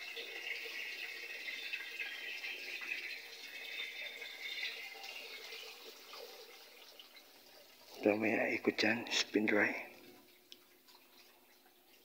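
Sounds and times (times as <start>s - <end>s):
washing machine draining water: 0.0s - 12.0s.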